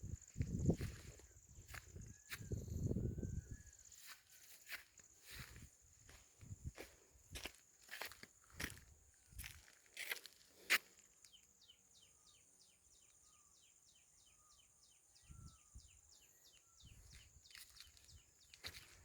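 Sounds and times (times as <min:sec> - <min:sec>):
high insect hiss: 0:00.0 - 0:19.0.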